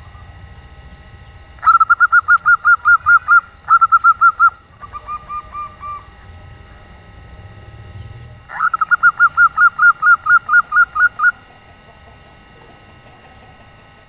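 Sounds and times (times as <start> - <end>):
dove cooing: 1.5 - 14.0.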